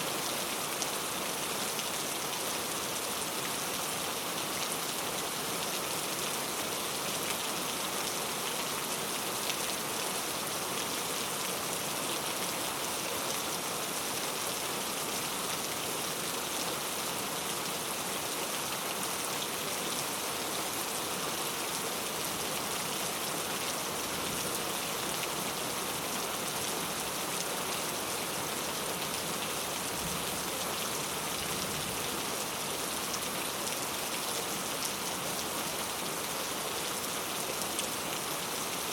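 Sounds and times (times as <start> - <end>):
heavy rain falling: 0.1 - 38.9.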